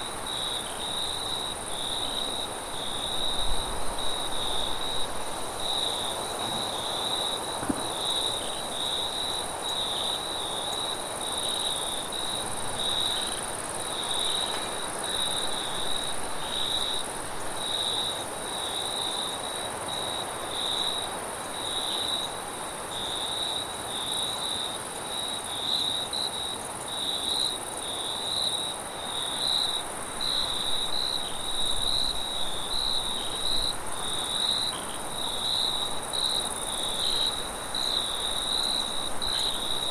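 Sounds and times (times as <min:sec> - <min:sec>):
crickets chirping: 0:00.0 - 0:39.9
high insect trill: 0:00.0 - 0:39.9.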